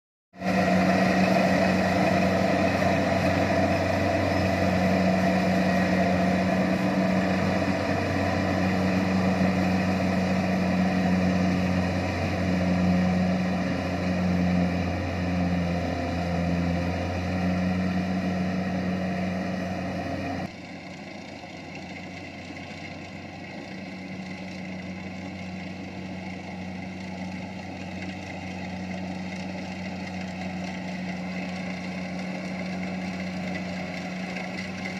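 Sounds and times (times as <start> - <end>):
diesel engine humming: 0.4 - 34.9.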